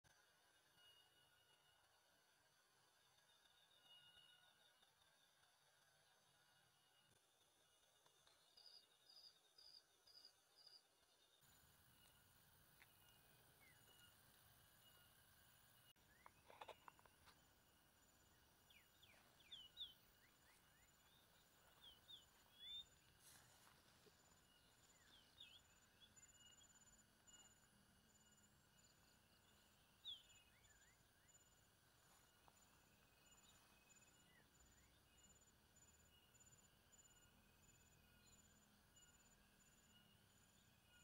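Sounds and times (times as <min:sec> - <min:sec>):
high insect tone: 0:08.1 - 0:41.0.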